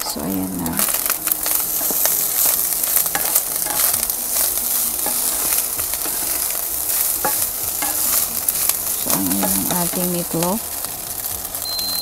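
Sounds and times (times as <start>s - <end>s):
fried rice sizzling in a wok: 0.0s - 12.0s
spatula scraping and tapping pan: 0.8s - 11.6s.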